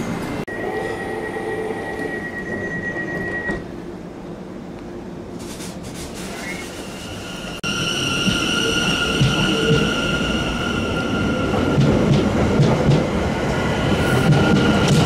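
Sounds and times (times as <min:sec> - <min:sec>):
train high whine: 0:00.0 - 0:15.0
train rumbling: 0:00.0 - 0:15.0.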